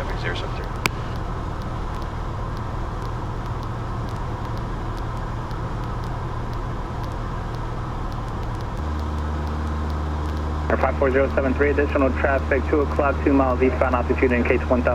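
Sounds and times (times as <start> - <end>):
propeller aircraft engine droning: 0.0 - 14.9.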